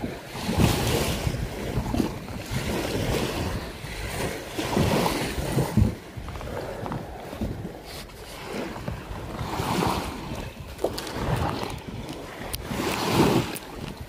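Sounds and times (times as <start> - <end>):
small waves washing around hull: 0.0 - 14.0
wind buffeting microphone: 0.0 - 14.0.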